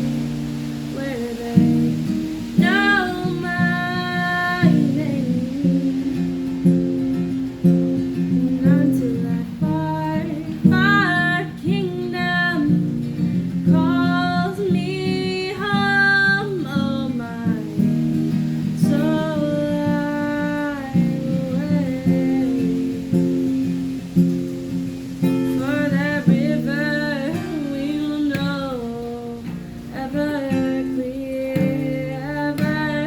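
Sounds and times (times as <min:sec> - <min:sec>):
person singing: 0:00.0 - 0:06.8, 0:08.0 - 0:23.4, 0:25.4 - 0:33.0
acoustic guitar strumming: 0:00.0 - 0:33.0.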